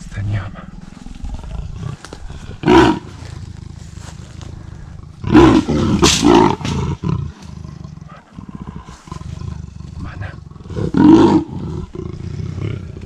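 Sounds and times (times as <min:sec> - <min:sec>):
leopard growling and snarling: 0:00.0 - 0:13.0.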